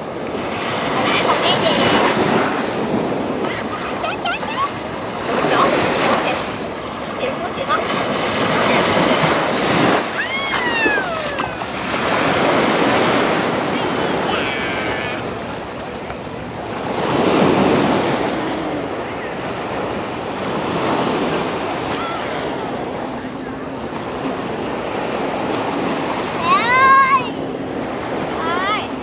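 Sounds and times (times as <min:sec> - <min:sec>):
surf washing onto beach: 0:00.0 - 0:29.0.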